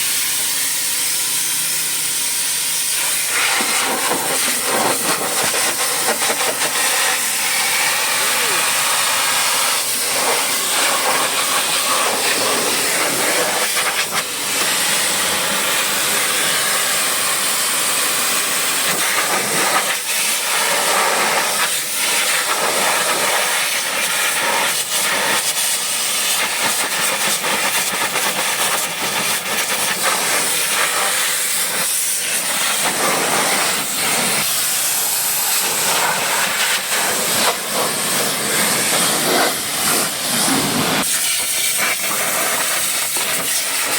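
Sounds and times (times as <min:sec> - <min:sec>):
pressure washer spraying water: 0:00.0 - 0:43.9.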